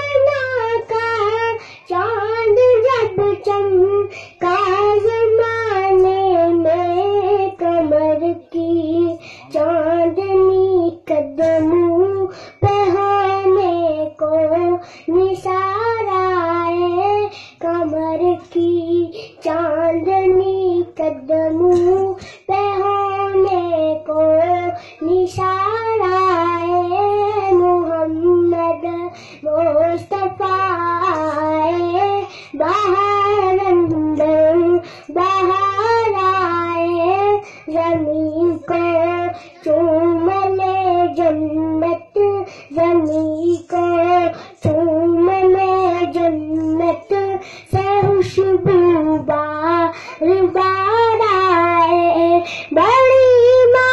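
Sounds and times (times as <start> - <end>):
boy singing devotional song: 0.0 - 53.9.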